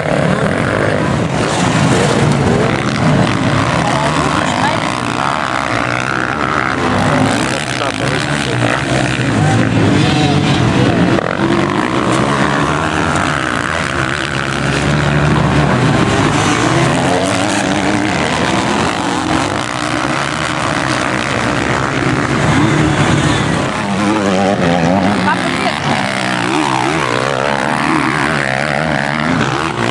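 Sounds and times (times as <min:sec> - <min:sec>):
motocross bikes revving: 0:00.0 - 0:29.9.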